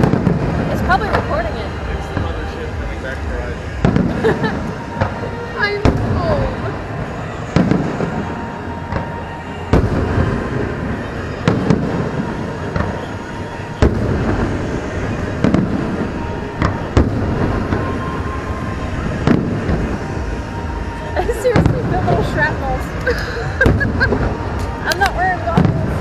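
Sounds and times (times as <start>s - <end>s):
fireworks bursting with sharp bangs: 0.0s - 26.0s
fireworks rumble and crackle: 0.0s - 26.0s.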